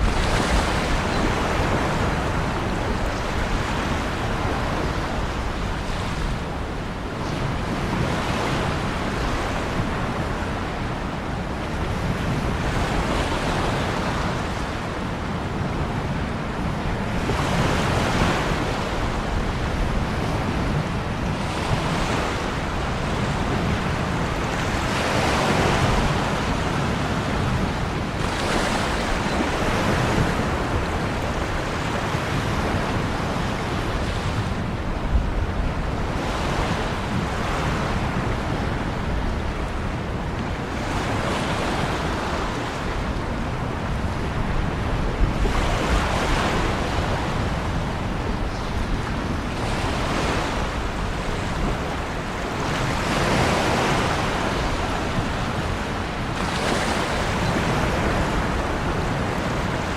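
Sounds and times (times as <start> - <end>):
low rumble of the sea: 0.0 - 59.9
ocean waves breaking: 0.0 - 59.9.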